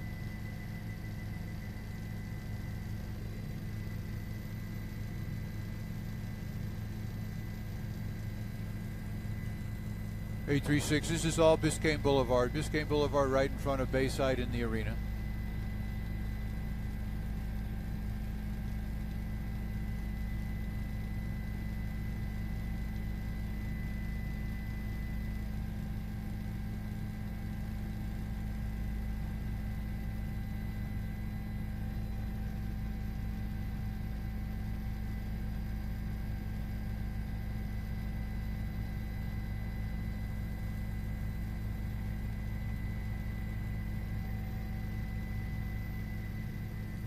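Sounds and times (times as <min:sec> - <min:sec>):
faint whining tones: 0:00.0 - 0:47.0
low mechanical drone: 0:00.0 - 0:47.0.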